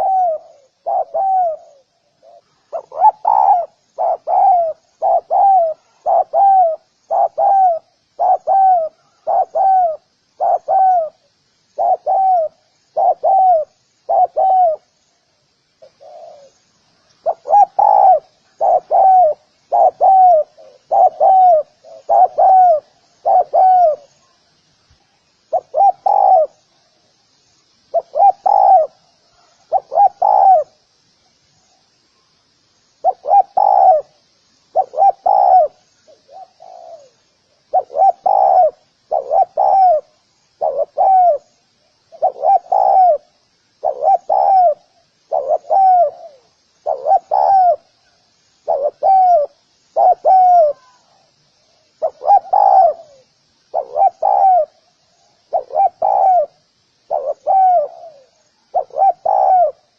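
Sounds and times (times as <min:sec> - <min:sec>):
dove cooing: 0:00.0 - 0:14.9, 0:15.8 - 0:16.6, 0:17.2 - 0:24.4, 0:25.5 - 0:26.6, 0:27.9 - 0:30.8, 0:33.0 - 0:41.5, 0:42.1 - 0:51.2, 0:52.0 - 0:54.9, 0:55.5 - 0:59.9.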